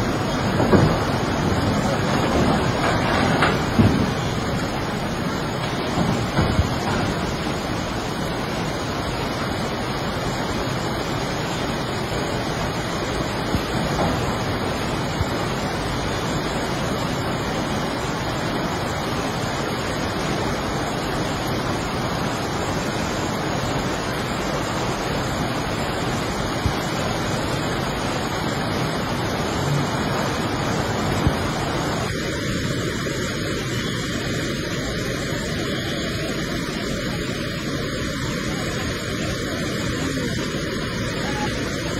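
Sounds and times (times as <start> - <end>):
river rushing: 0.0 - 41.9.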